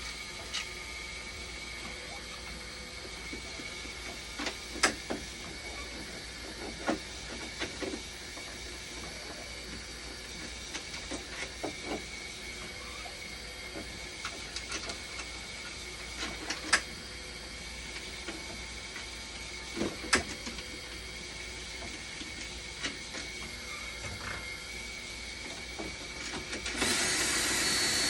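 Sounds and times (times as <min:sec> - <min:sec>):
machine humming with high whine: 0:00.0 - 0:28.0.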